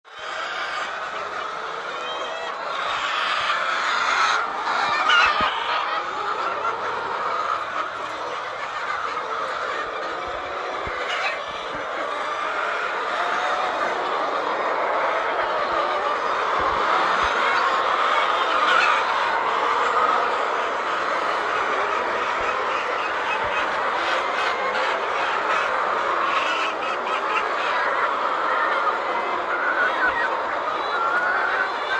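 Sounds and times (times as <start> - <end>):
hens clucking: 0.1 - 31.9.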